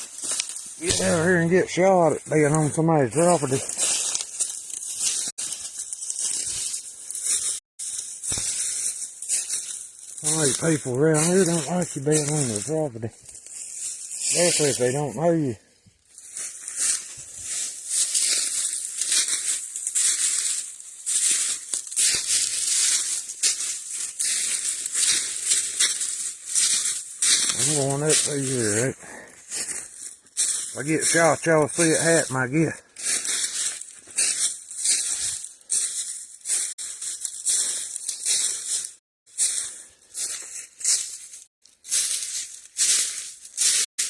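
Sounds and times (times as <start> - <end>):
brush rustling against clothing: 0.0 - 15.1, 16.0 - 31.3, 33.0 - 43.9
footsteps crunching through dry leaves: 0.0 - 44.0.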